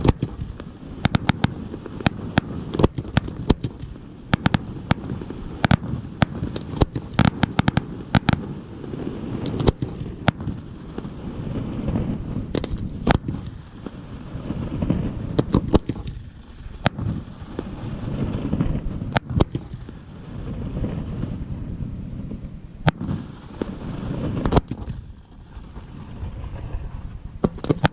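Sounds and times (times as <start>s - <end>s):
fireworks shells bursting: 0.0s - 11.1s, 11.8s - 21.4s, 22.3s - 27.9s
low rumble of explosions: 0.0s - 27.9s.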